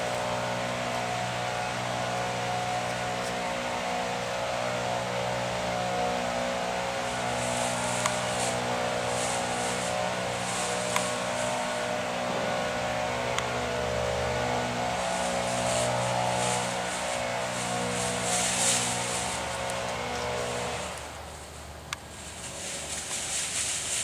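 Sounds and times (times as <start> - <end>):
motor hum with held tones: 0.0 - 22.4
dry leaves rustling and crunching: 0.0 - 24.0.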